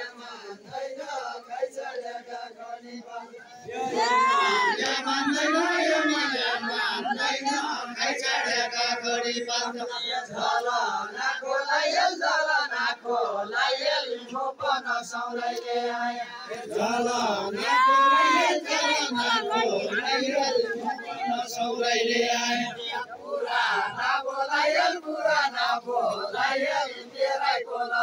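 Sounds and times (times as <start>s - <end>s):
men singing in chanting style: 0.0s - 28.0s.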